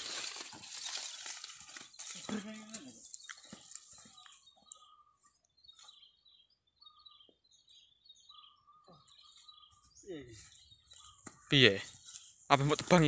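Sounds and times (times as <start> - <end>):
faint bird chirps: 1.6 - 12.5.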